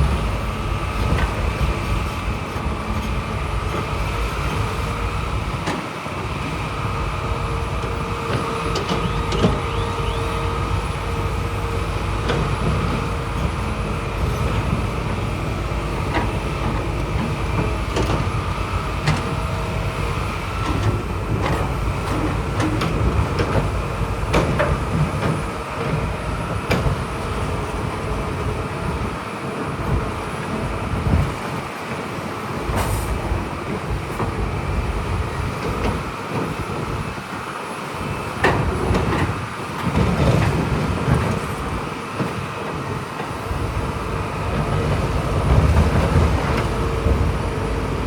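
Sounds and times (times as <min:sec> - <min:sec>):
diesel machinery rumbling: 0:00.0 - 0:48.0.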